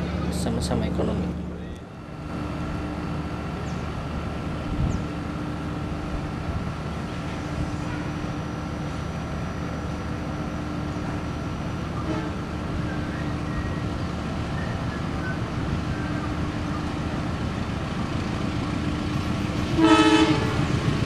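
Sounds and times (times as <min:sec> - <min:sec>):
diesel train engine idling: 0:00.0 - 0:21.0.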